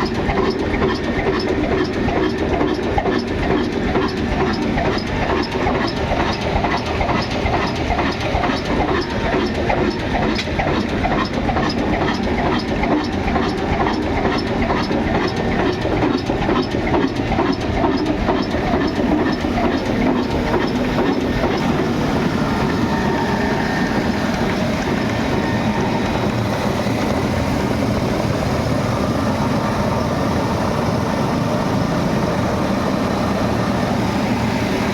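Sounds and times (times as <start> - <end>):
diesel engine knocking: 0.0 - 34.9.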